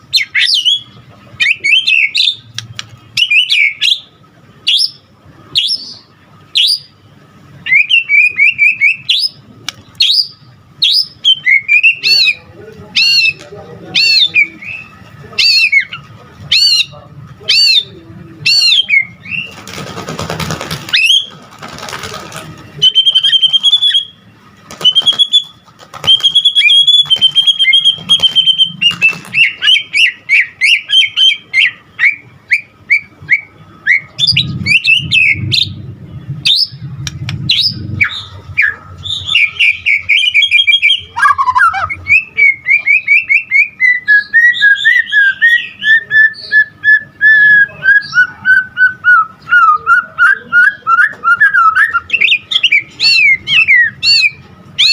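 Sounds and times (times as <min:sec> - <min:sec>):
songbird singing whistles and trills: 0:00.1 - 0:07.0, 0:07.6 - 0:16.9, 0:17.5 - 0:19.6, 0:22.8 - 0:35.8, 0:36.4 - 0:36.8, 0:37.4 - 0:54.9.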